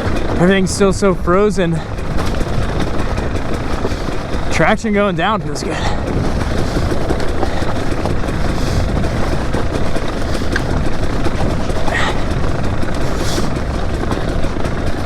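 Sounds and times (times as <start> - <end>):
chassis rattle: 0.0 - 15.0
dirt bike engine rumble: 0.0 - 15.0
tyres on rough ground: 0.0 - 15.0.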